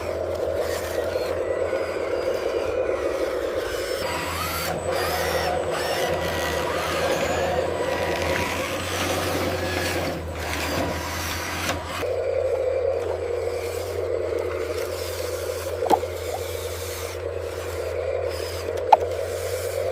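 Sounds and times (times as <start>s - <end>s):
toy machine motor whine: 0.0s - 19.9s.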